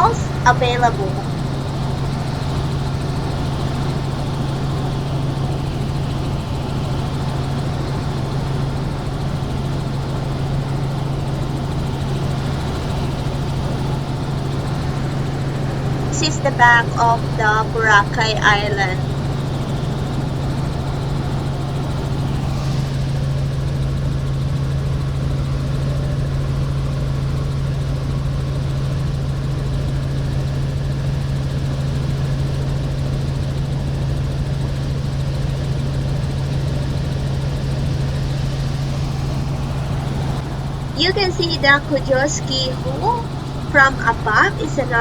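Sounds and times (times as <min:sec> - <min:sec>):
helicopter engine and rotors droning: 0:00.0 - 0:45.0.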